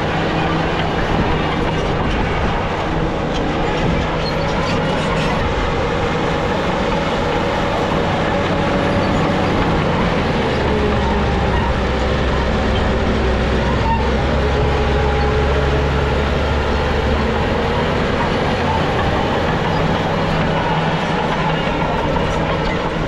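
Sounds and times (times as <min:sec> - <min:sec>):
diesel engine running: 0:00.0 - 0:23.0
steel tracks clattering: 0:00.0 - 0:23.0.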